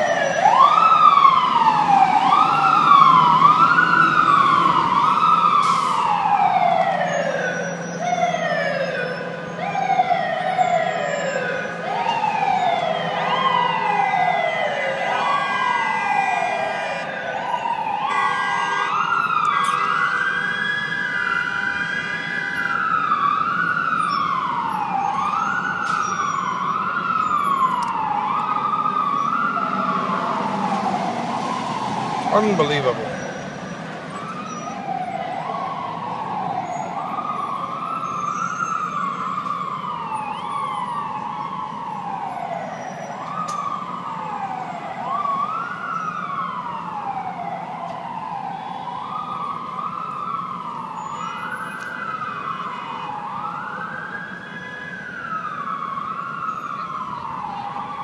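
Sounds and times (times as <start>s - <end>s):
emergency sirens wailing: 0.0s - 58.0s.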